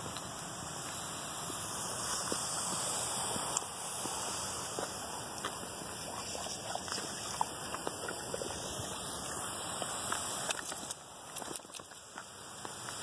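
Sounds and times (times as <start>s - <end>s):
sprinkler spraying water: 0.0s - 13.0s.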